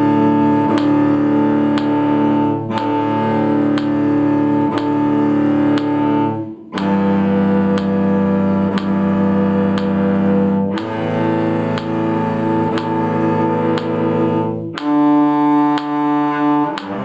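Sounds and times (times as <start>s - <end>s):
cello bowed notes: 0.0s - 17.0s
metronome clicks: 0.0s - 17.0s.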